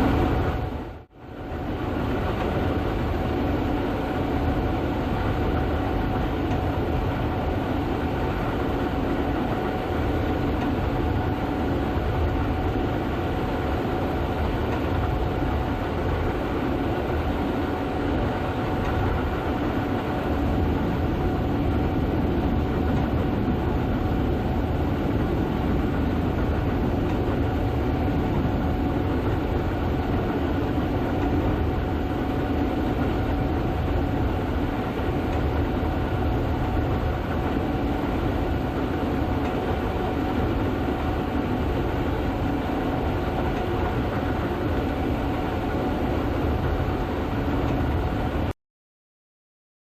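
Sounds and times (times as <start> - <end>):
combine harvester running: 0.0 - 48.5.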